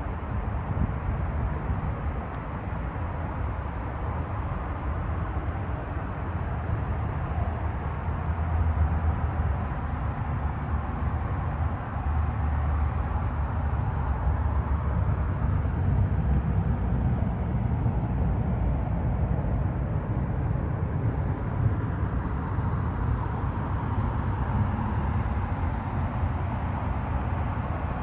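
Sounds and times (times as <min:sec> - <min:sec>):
engine running with low rumble: 0:00.0 - 0:28.0.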